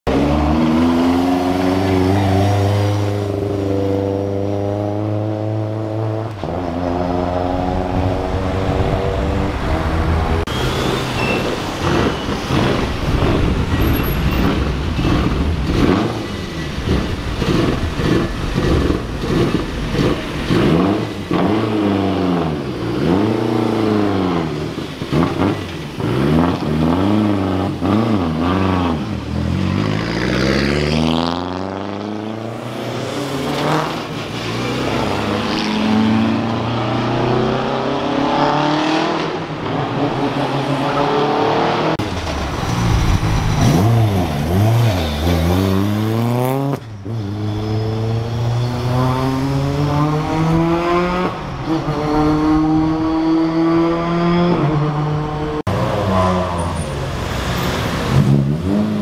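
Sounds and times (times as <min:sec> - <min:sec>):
car engines blipping throttle: 0:00.0 - 0:59.0
cars accelerating past: 0:00.1 - 0:59.0.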